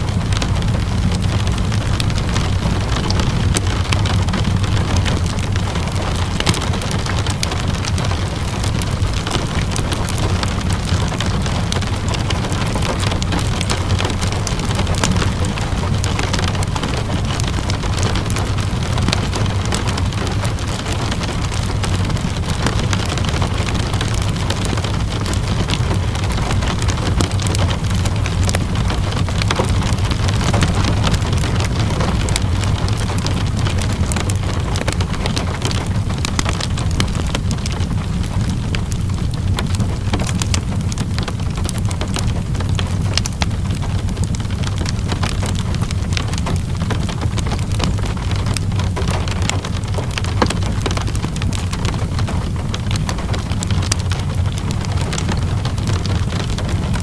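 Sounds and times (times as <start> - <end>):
crackling wood fire: 0.0 - 57.0
low steady rumble: 0.0 - 57.0
steady rain: 0.0 - 57.0.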